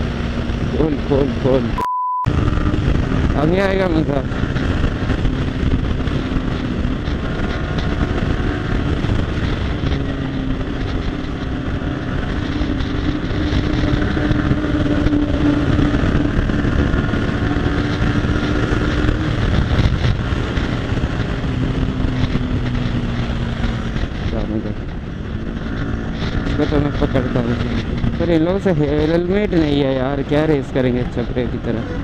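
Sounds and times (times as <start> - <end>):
motorcycle engine running hard: 0.0 - 32.0
wind rushing over microphone: 0.0 - 32.0.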